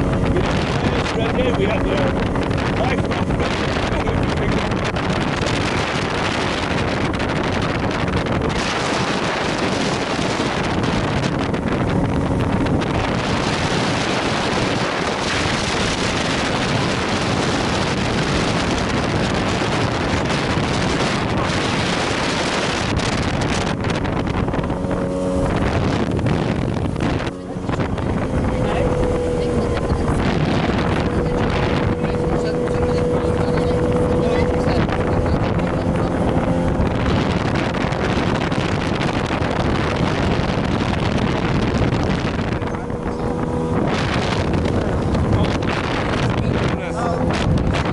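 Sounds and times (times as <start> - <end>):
wind noise on microphone: 0.0 - 47.9.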